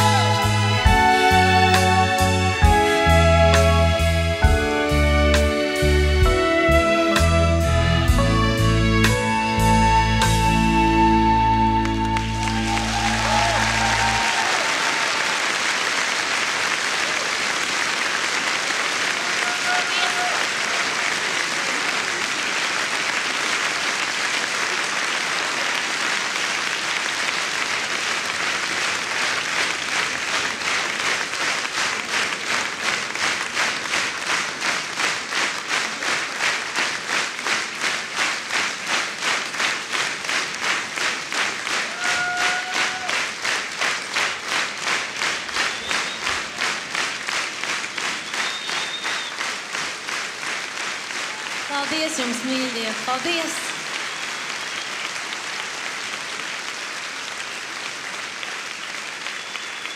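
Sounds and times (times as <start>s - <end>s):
audience applauding: 0.0s - 6.3s, 9.7s - 59.9s
rhythmic clapping in unison: 0.0s - 8.2s, 11.6s - 59.9s.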